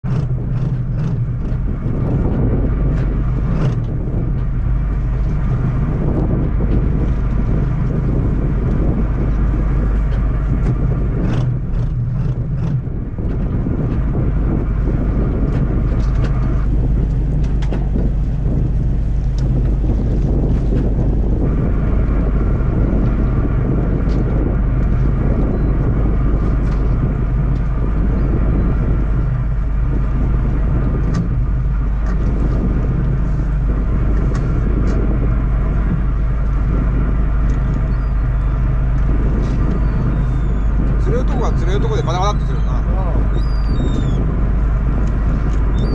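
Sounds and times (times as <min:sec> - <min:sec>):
boat engine running: 0:00.0 - 0:45.9
higher steady hum: 0:00.0 - 0:45.9
wind buffeting microphone: 0:00.0 - 0:45.9.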